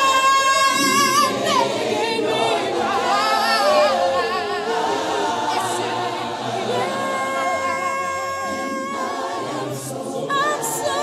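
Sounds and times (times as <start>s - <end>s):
group singing a hymn a cappella: 0.0s - 11.0s.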